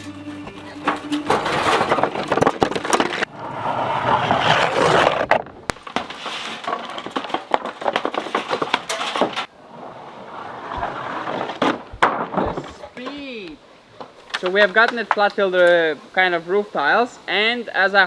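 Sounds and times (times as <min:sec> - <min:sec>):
rubble scraping and clattering: 0:00.0 - 0:13.2, 0:14.0 - 0:15.4.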